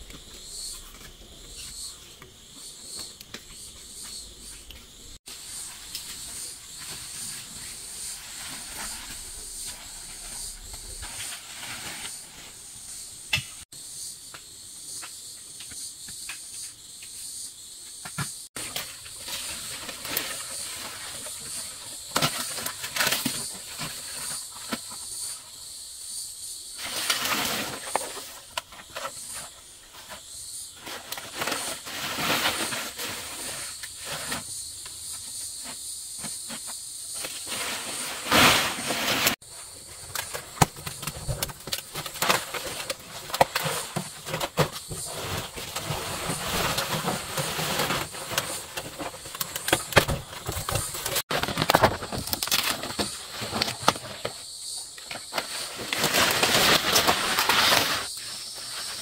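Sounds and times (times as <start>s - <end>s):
rustling and scraping: 0.0s - 13.7s, 18.1s - 25.6s, 26.6s - 59.0s.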